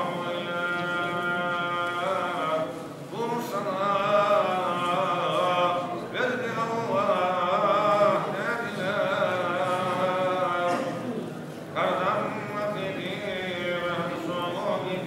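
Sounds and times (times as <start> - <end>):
man chanting recitation: 0.0 - 11.1, 11.7 - 15.0.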